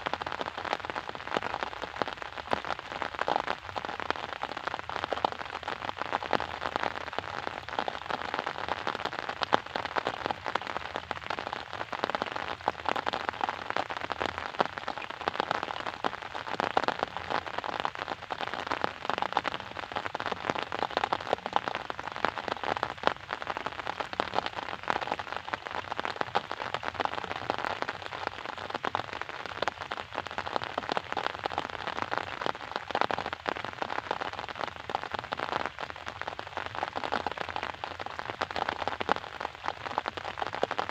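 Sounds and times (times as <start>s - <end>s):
rain falling: 0.0s - 40.9s
raindrops tapping a surface: 0.0s - 40.9s.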